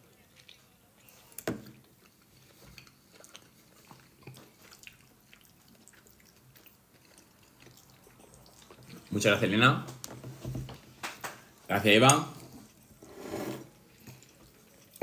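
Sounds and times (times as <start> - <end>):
faint chewing: 0.0 - 15.0.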